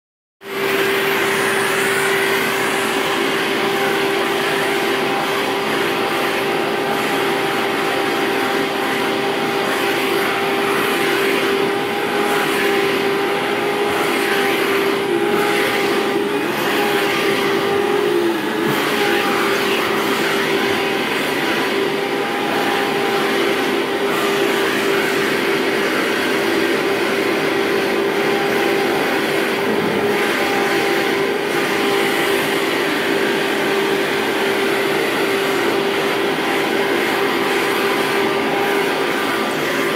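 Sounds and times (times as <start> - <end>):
vacuum cleaner motor whine: 0.4 - 39.9
suction rushing through fur: 0.6 - 39.9.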